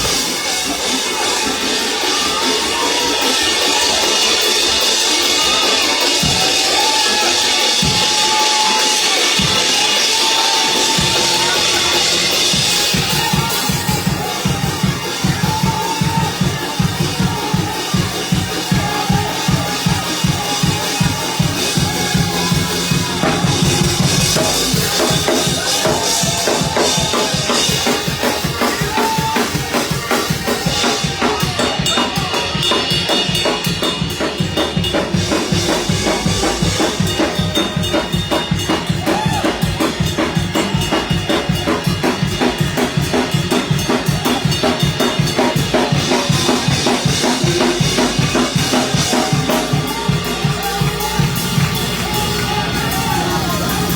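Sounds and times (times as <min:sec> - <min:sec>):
drum kit beat: 0:00.0 - 0:53.9
gospel music: 0:00.0 - 0:53.9.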